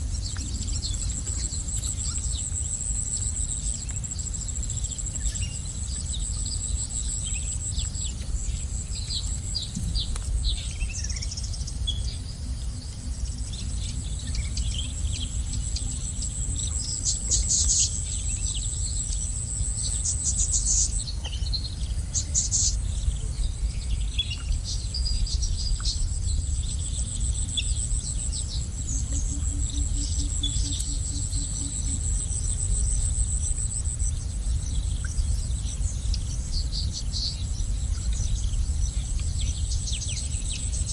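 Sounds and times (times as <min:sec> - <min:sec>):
pulsing insect trill: 0:00.0 - 0:40.9
small birds chirping: 0:00.1 - 0:40.9.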